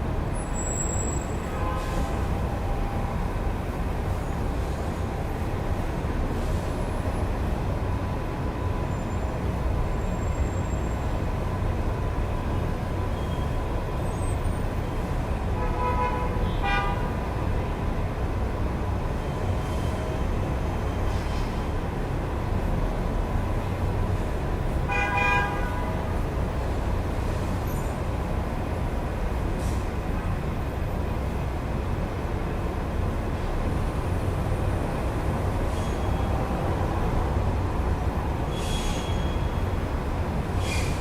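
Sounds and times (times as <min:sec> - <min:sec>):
road traffic noise: 0:00.0 - 0:41.0.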